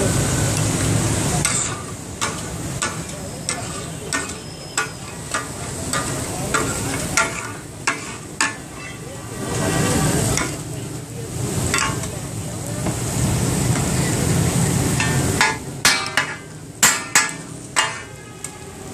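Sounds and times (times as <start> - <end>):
loud rush of noise: 0.0 - 18.9
meat sizzling: 0.0 - 18.9
spatulas clanking on griddle: 1.3 - 13.1, 14.8 - 18.5.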